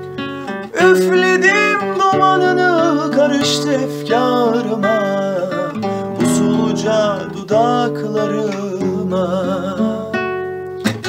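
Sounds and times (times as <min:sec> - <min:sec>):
man singing with vibrato: 0:00.0 - 0:11.0
strummed acoustic guitar: 0:00.0 - 0:11.0.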